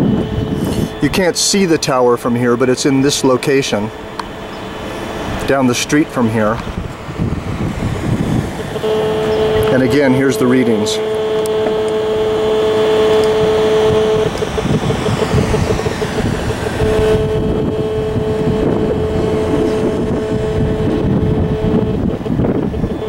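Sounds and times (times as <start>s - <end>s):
dense electronic buzz: 0.0s - 23.0s
two-note hum: 0.0s - 23.0s.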